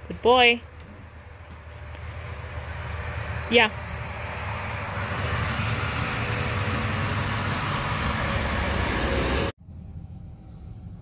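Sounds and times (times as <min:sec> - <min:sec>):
rushing noise with low rumble: 0:00.7 - 0:11.0.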